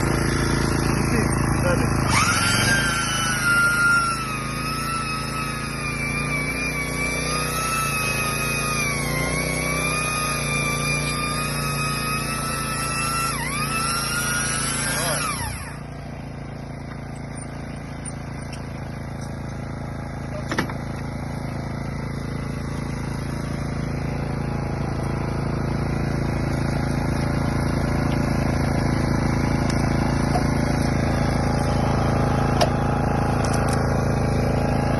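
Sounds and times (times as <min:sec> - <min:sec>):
electric motor whining: 0:00.0 - 0:34.9
low machine hum: 0:00.0 - 0:34.9.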